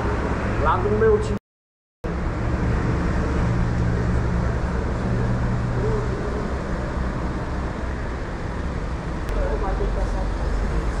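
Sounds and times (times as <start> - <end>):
traffic rumble: 0.0 - 1.4, 2.0 - 11.0
low engine hum: 2.0 - 11.0.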